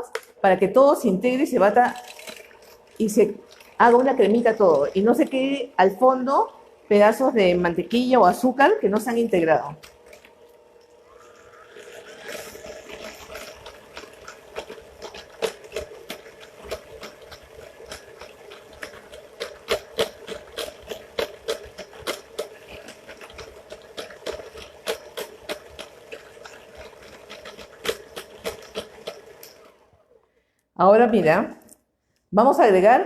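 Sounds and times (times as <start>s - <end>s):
electric mixer running: 0.0s - 31.5s.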